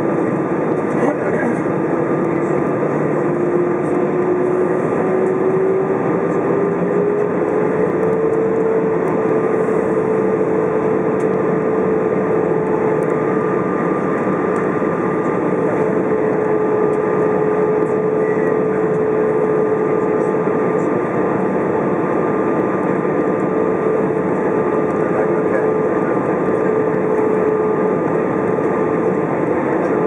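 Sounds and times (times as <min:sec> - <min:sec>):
airplane cabin engine roar: 0:00.0 - 0:30.0.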